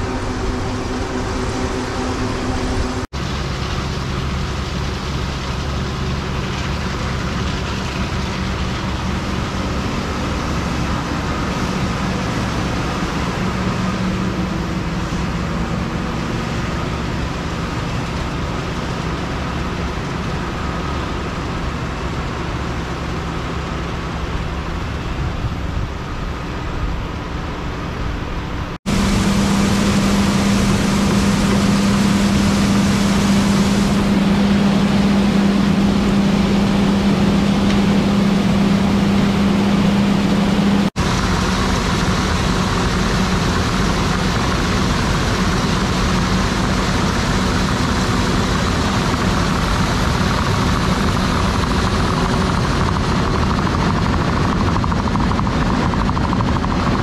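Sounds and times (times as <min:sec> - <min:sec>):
combine harvester and tractor engines: 0:00.0 - 0:57.0
strong steady hum: 0:00.0 - 0:57.0.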